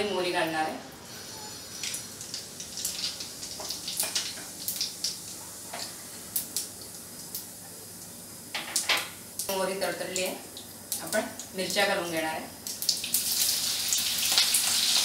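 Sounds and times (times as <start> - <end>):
seeds sizzling in hot oil: 1.0 - 11.1, 11.7 - 15.0.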